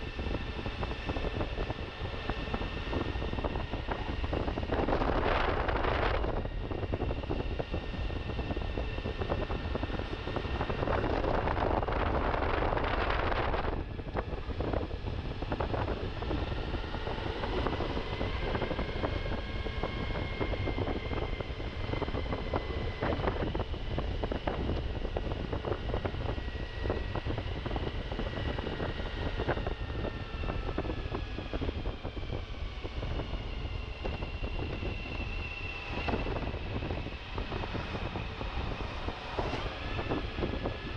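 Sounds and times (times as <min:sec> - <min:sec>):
wind buffeting on microphone: 0:00.0 - 0:40.9.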